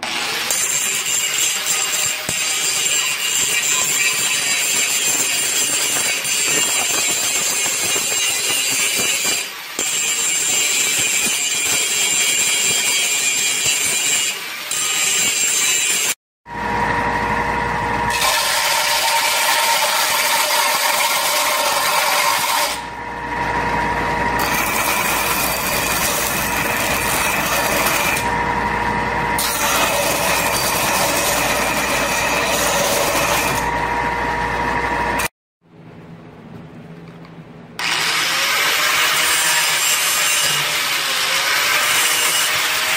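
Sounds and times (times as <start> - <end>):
belt grinder humming and whining: 0.0 - 16.1, 16.8 - 35.3, 37.8 - 42.9
angle grinder grinding steel: 0.0 - 16.2, 18.1 - 22.9, 24.2 - 34.1, 37.8 - 42.9.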